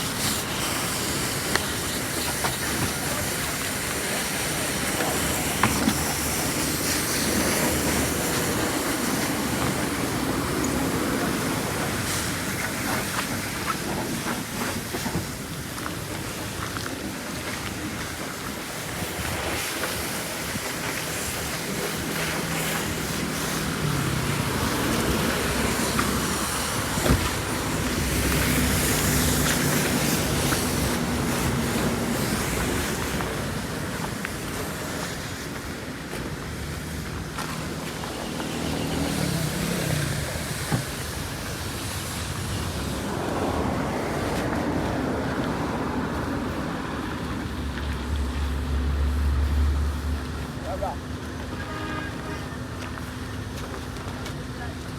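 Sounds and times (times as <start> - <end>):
steady rushing noise: 0.0 - 50.9
vehicle engines passing: 0.0 - 54.9.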